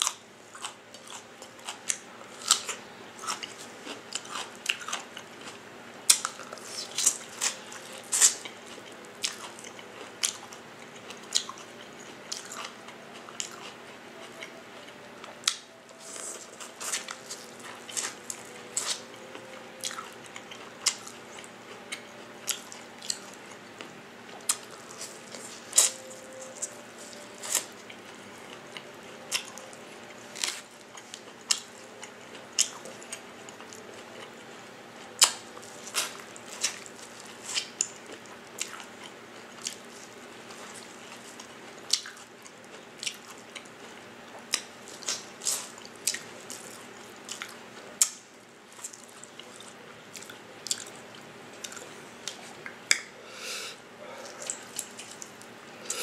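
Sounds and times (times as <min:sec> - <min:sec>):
chewing: 0:00.0 - 0:53.1, 0:54.0 - 0:56.0.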